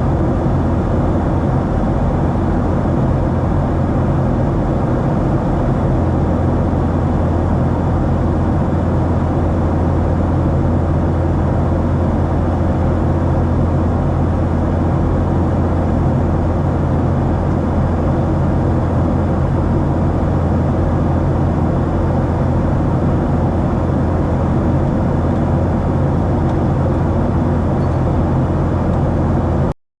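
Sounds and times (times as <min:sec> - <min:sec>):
airplane cabin engine drone: 0:00.0 - 0:29.8.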